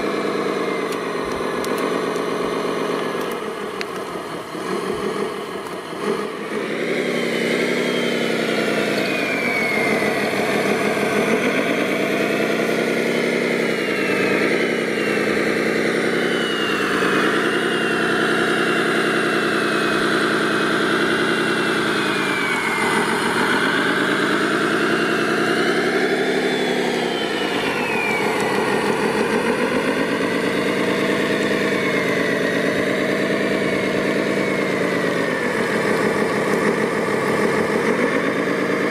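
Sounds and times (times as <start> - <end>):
high whine: 0.0 - 38.9
machine engine running: 0.0 - 38.9.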